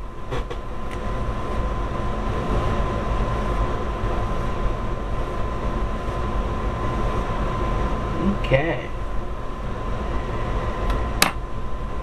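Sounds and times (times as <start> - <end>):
high whine: 0.0 - 12.0
low rumble: 0.0 - 12.0.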